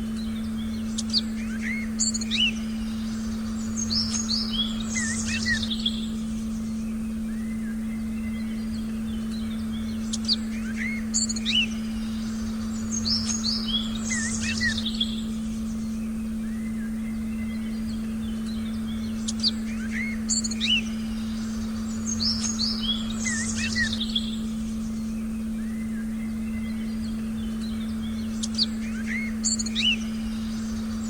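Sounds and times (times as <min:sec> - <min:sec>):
birds chirping: 0:00.0 - 0:31.0
steady meditation tone: 0:00.0 - 0:31.0.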